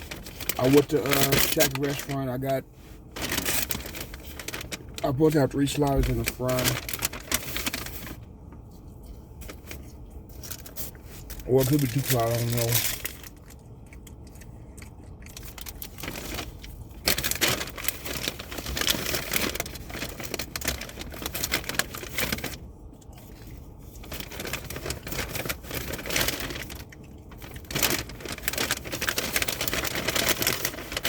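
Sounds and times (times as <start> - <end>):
paper bag and wrappers rustling: 0.0 - 8.3, 9.0 - 31.0.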